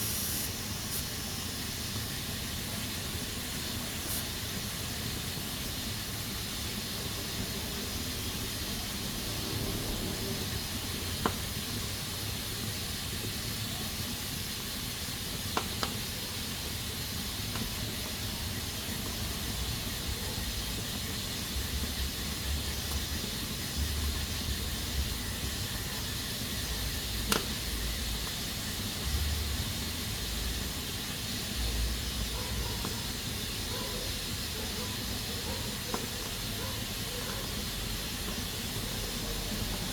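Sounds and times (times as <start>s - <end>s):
pressure cooker hissing: 0.0s - 39.9s.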